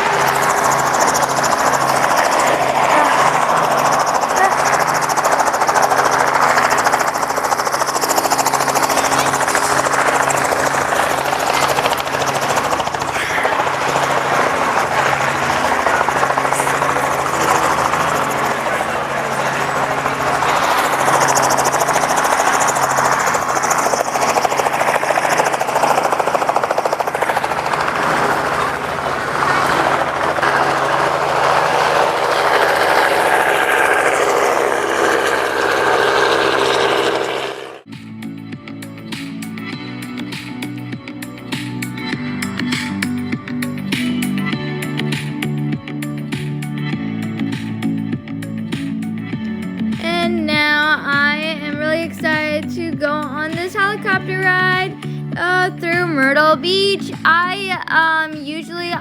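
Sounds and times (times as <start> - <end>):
helicopter engine and rotor: 0.0 - 57.5
constant low hum: 0.0 - 59.0.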